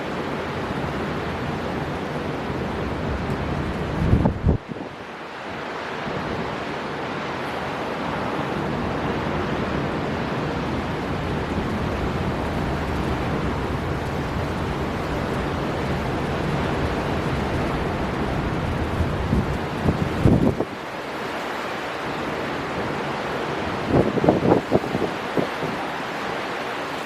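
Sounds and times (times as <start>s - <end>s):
sea waves breaking: 0.0s - 27.0s
storm wind blowing hard: 0.0s - 27.0s.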